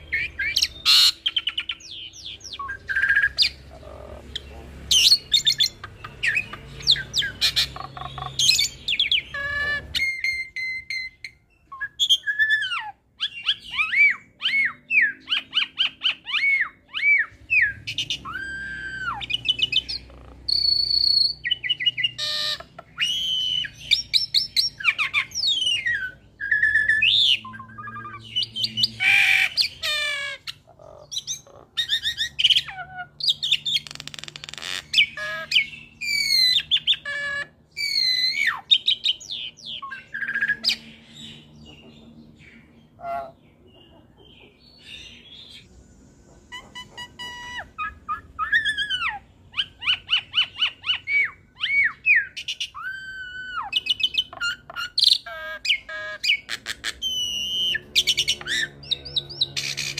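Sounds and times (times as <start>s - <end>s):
bird singing varied chatter: 0.0s - 59.9s.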